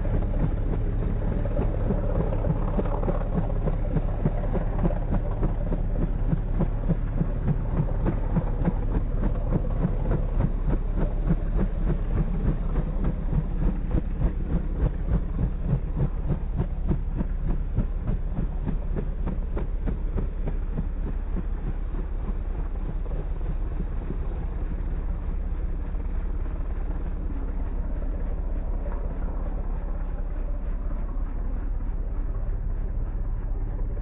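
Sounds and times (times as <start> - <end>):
helicopter rotor chopping: 0.0 - 34.0
low rumble: 0.0 - 34.0.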